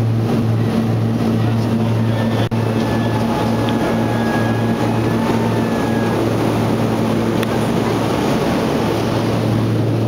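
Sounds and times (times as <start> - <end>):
turboprop engines droning: 0.0 - 10.0.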